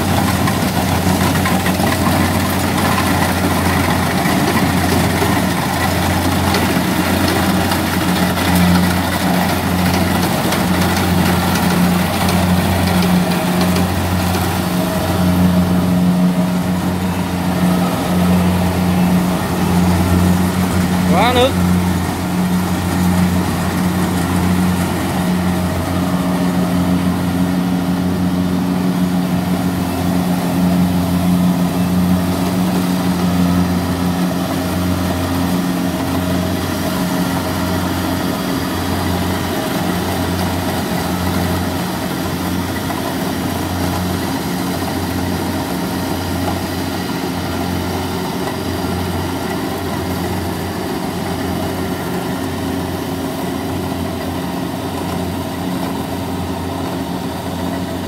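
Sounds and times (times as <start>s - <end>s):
combine harvester diesel engine running: 0.0s - 58.0s.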